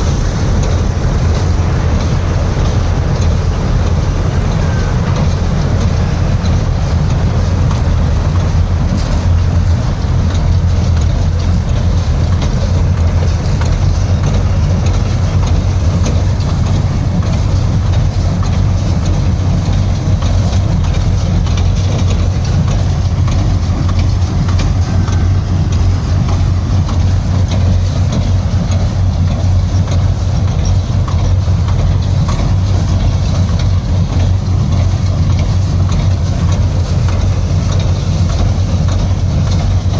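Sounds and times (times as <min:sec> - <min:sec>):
factory machinery humming: 0:00.0 - 0:39.9
fast ticking rattle: 0:00.0 - 0:39.9.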